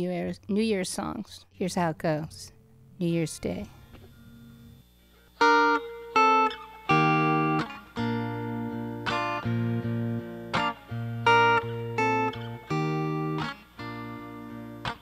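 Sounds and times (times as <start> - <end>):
electric guitar chords ringing: 2.0 - 15.0.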